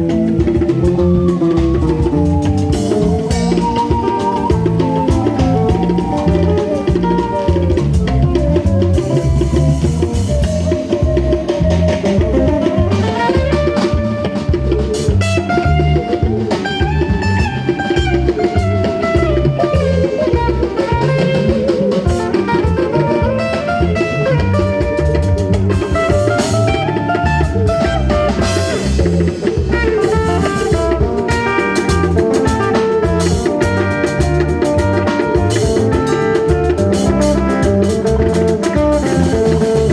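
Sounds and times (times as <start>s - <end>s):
drum kit beat: 0.0s - 39.9s
gliding melodic lead line: 0.0s - 39.9s
guitar: 0.0s - 39.9s.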